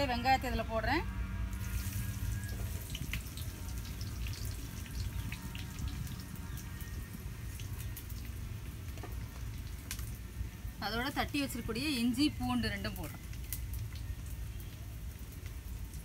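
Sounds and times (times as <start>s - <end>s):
onions sizzling in oil: 1.4s - 16.0s.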